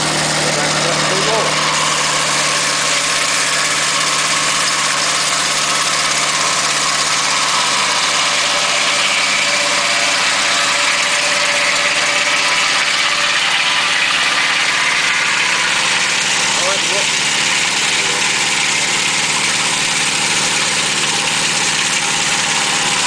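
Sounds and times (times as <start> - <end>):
engine running steadily: 0.0 - 23.0
saw blades cutting log: 0.0 - 23.0.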